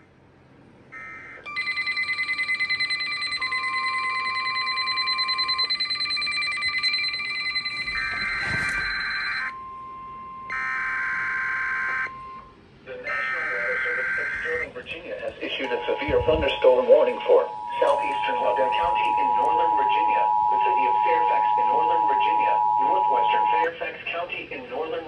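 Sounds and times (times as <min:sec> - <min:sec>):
beeping and warbling alarm tones: 0:01.0 - 0:23.8
steady warning tone: 0:01.0 - 0:23.9.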